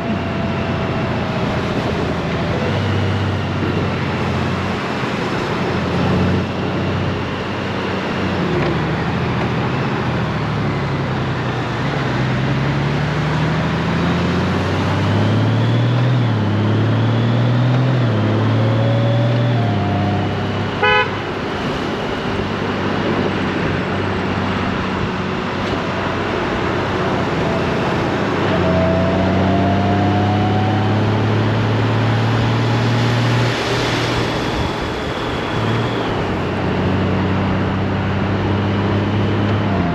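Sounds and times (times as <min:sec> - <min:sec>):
motorcycle engine accelerating: 0:00.0 - 0:20.9, 0:21.6 - 0:39.9
wind and road noise: 0:00.0 - 0:39.9.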